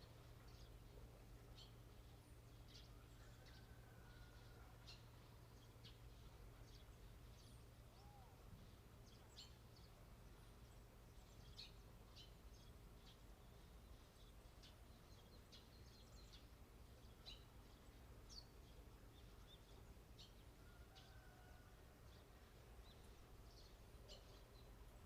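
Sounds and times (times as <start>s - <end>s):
small birds chirping: 0.0s - 21.4s, 22.1s - 25.0s
low steady hum: 0.0s - 25.0s.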